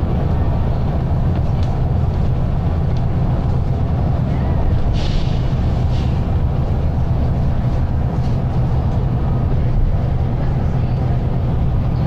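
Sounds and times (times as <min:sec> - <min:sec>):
bus engine drone: 0:00.0 - 0:12.0
road and body noise: 0:00.0 - 0:12.0.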